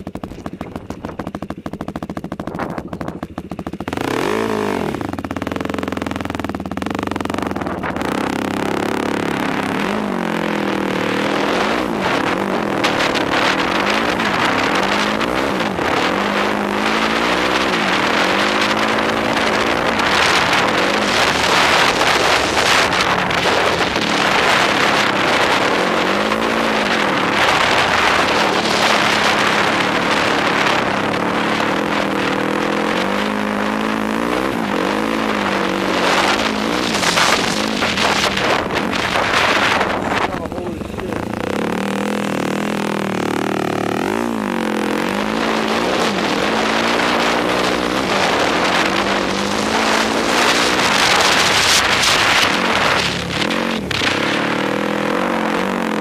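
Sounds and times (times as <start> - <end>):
quad engine revving: 0.0 - 56.0
wind rushing over microphone: 6.8 - 56.0.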